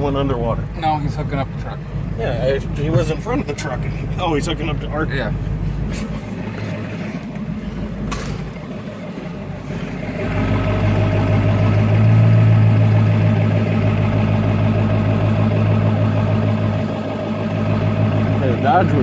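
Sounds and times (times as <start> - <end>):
pickup truck engine running: 0.0 - 19.0.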